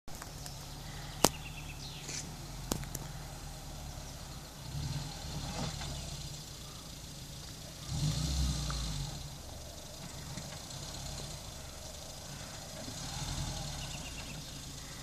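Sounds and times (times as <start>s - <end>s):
off-road vehicle engine running: 0.1s - 15.0s.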